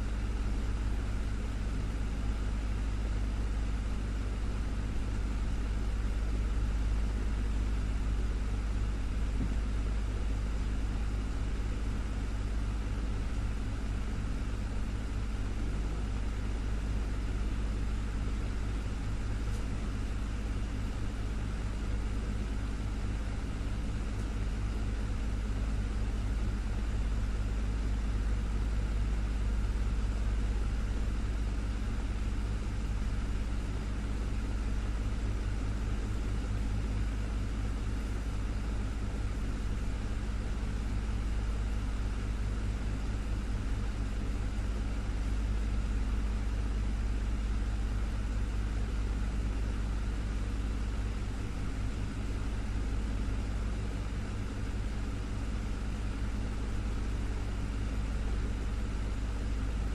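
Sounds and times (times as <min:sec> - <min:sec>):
desktop fan running: 0:00.0 - 0:59.9.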